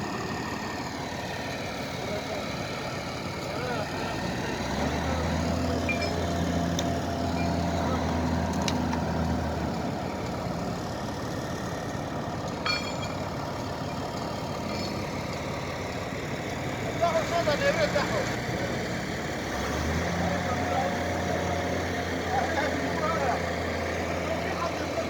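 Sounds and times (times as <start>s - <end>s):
heavy engine running: 0.0s - 25.0s
outdoor mechanical background noise: 0.0s - 25.0s.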